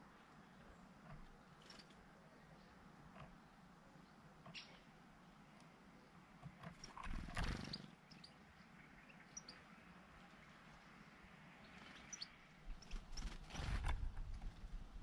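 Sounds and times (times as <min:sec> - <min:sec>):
faint outdoor background noise: 0:00.0 - 0:15.0
songbirds chirping: 0:00.0 - 0:15.0.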